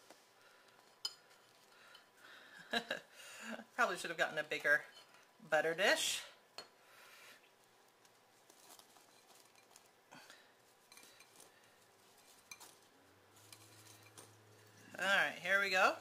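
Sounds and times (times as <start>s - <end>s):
soft rustling in glass bowl: 0.0s - 3.0s, 3.8s - 5.5s, 6.5s - 16.0s.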